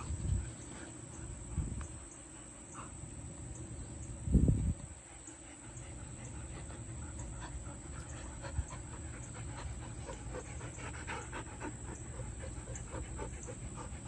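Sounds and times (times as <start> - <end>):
dogs panting: 0.0 - 3.8, 4.8 - 14.0.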